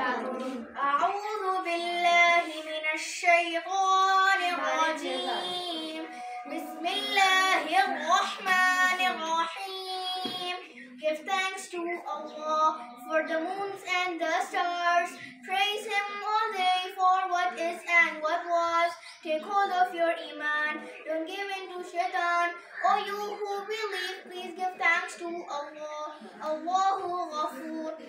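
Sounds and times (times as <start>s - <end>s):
girl singing unaccompanied: 0.0s - 28.0s.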